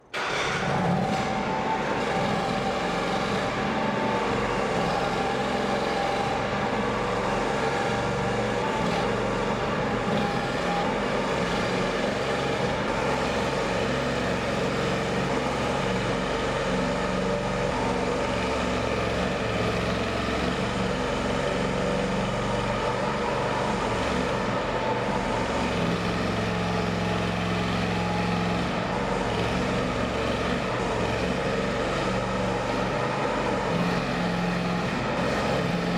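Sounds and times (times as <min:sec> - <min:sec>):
mini excavator engine running: 0:00.0 - 0:35.9.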